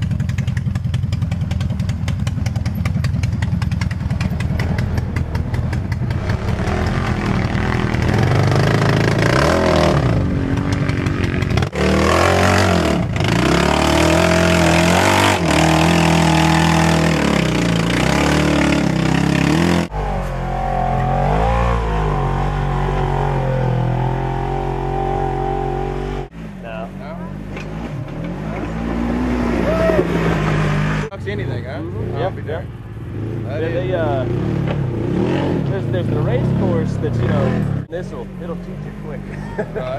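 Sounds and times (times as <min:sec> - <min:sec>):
utv engine revving: 0:00.0 - 0:39.9.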